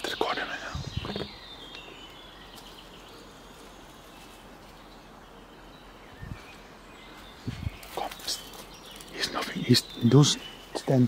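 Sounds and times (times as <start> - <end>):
faint bird chirps: 0.0 - 11.0
steady background hush: 0.0 - 11.0.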